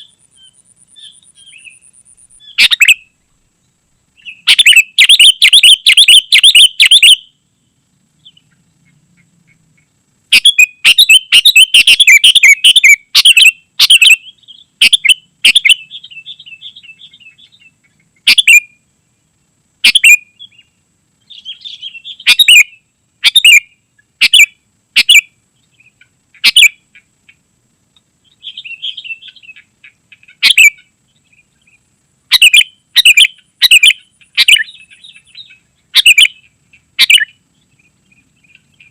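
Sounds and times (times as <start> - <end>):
short bird calls: 0.0 - 3.2, 4.2 - 18.8, 19.8 - 27.4, 28.2 - 38.9
soft bird chatter: 0.0 - 18.8, 19.8 - 38.9
bird singing: 0.0 - 18.9, 19.8 - 27.4, 28.2 - 38.9.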